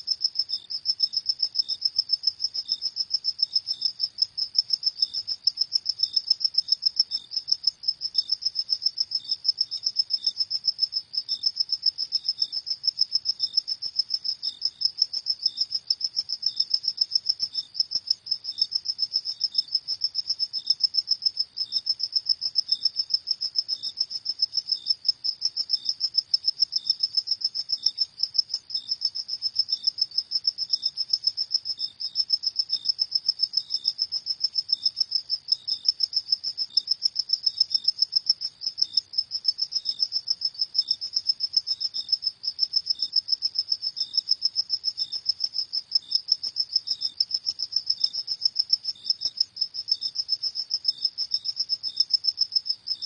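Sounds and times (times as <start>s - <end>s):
crickets chirping: 0.0s - 53.0s
second cricket chirping lower: 0.0s - 53.0s.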